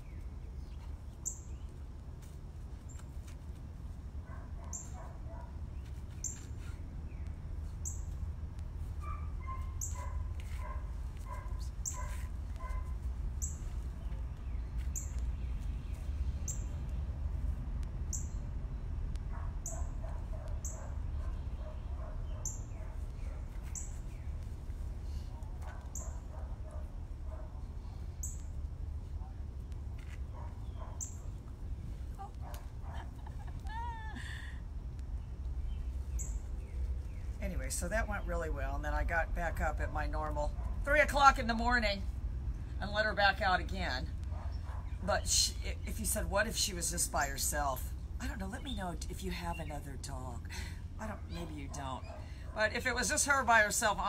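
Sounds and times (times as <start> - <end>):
low steady rumble: 0.0 - 54.0.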